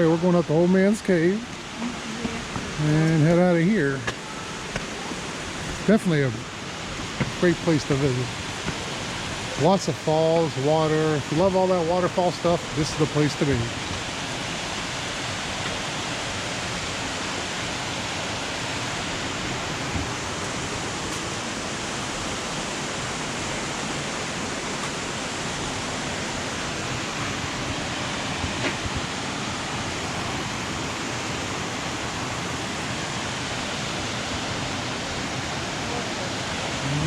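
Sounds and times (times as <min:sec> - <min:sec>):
flowing water from creek and waterfalls: 0:00.0 - 0:37.0.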